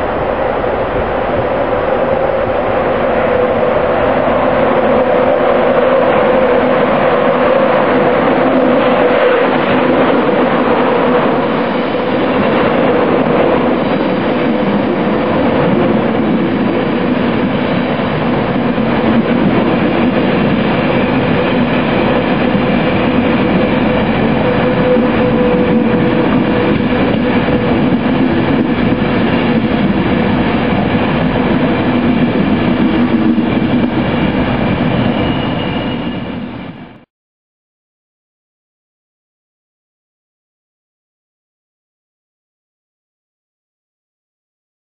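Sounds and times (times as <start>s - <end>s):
train hum: 0.0s - 37.1s.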